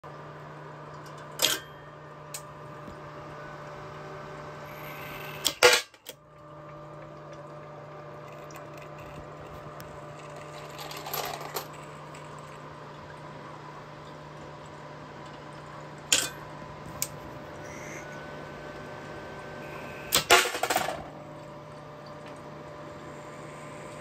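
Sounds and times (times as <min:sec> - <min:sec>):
annealing machine humming: 0:00.1 - 0:24.0.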